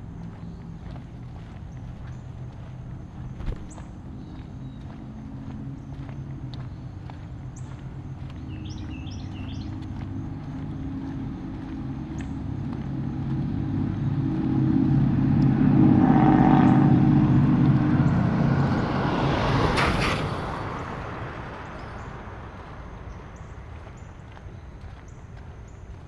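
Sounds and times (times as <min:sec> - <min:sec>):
car engine hum: 0:00.0 - 0:26.0.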